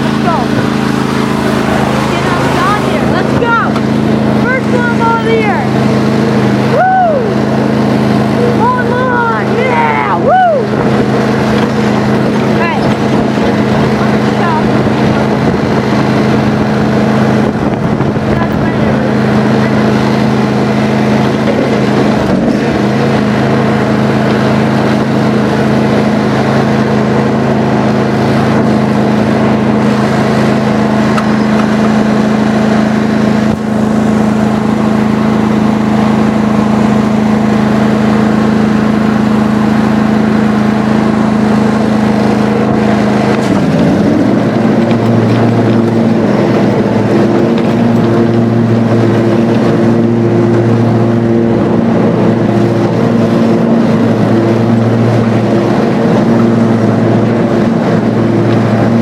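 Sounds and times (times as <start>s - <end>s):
riding lawn mower engine: 0.0s - 59.0s.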